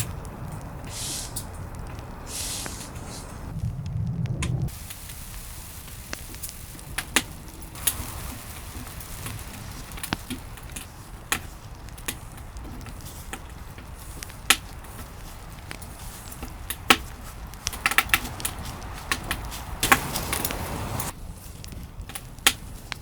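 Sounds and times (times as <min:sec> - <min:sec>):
low steady rumble: 0:00.0 - 0:22.4.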